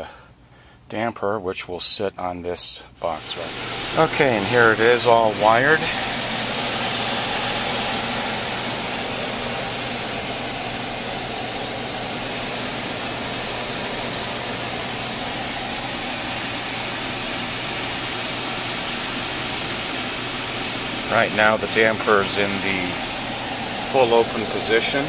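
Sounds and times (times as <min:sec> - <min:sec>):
blower rushing air with hum: 0:02.9 - 0:25.0.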